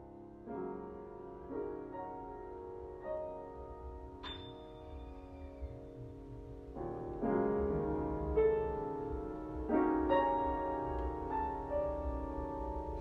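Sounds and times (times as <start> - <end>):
solo piano improvising: 0.0 - 13.0.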